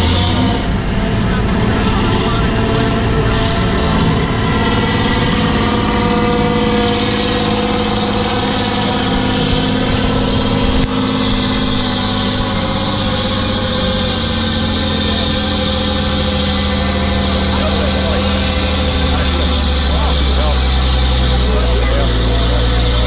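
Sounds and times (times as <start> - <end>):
truck diesel engine under load: 0.0 - 23.0.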